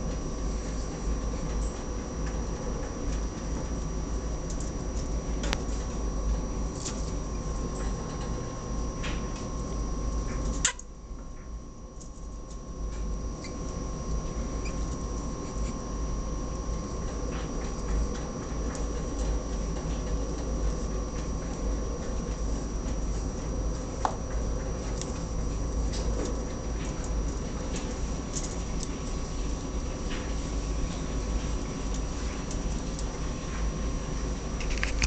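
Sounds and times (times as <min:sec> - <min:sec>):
background hum: 0:00.0 - 0:35.0.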